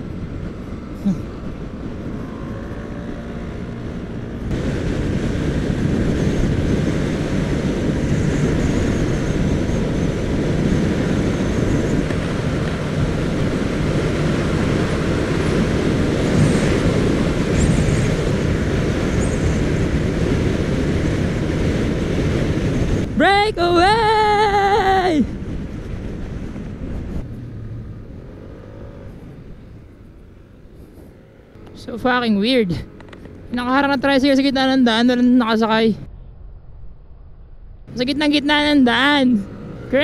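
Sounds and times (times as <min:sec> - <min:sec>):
scooter engine and tyre noise: 0:00.0 - 0:36.7, 0:37.7 - 0:40.0
wind rushing over microphone: 0:00.0 - 0:40.0.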